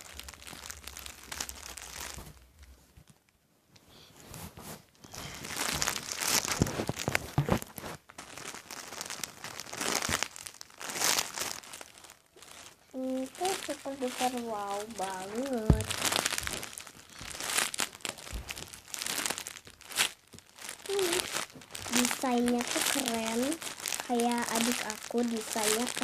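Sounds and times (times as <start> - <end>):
plastic toy crinkling and rustling: 0.0 - 3.3, 4.3 - 26.0.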